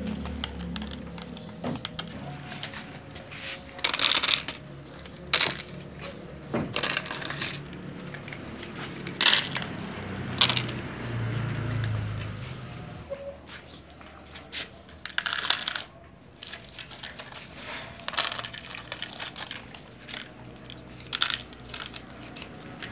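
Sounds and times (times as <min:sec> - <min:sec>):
dry kibble rattling into bowls: 0:00.0 - 0:13.0, 0:13.6 - 0:22.9.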